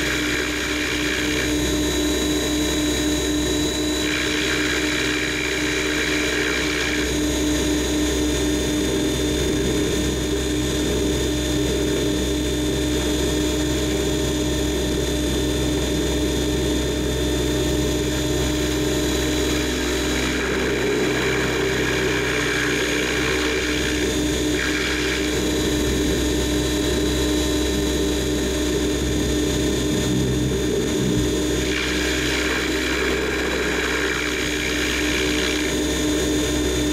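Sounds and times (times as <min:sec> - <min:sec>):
drone propellers humming: 0:00.0 - 0:36.9.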